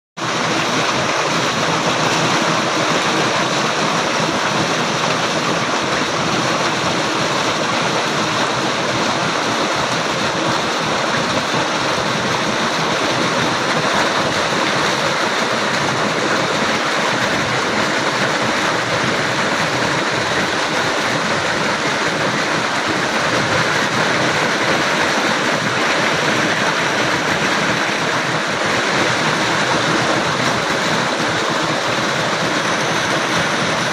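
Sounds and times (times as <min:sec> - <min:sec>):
running water: 0:00.2 - 0:33.9.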